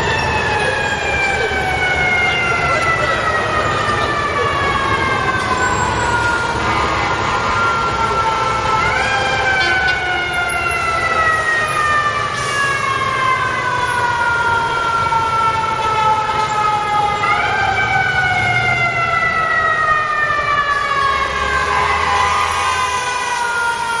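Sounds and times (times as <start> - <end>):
city traffic rumble: 0.0 - 24.0
mechanical siren wailing: 0.0 - 24.0.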